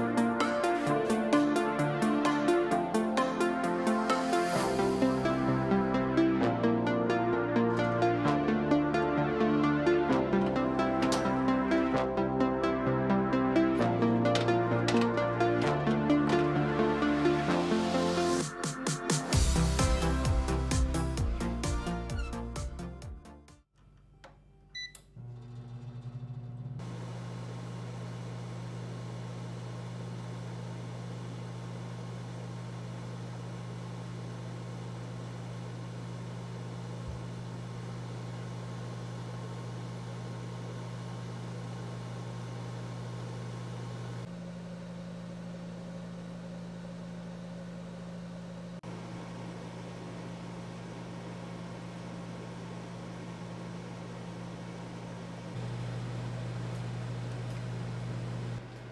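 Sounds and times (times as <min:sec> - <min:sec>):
microwave oven humming: 0:00.0 - 0:06.3, 0:07.1 - 0:18.4, 0:23.8 - 0:58.9.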